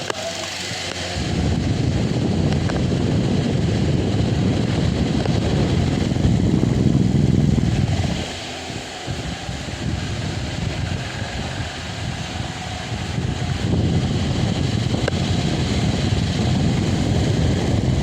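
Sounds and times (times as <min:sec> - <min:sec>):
electric fan wind rumble: 0:00.0 - 0:18.0.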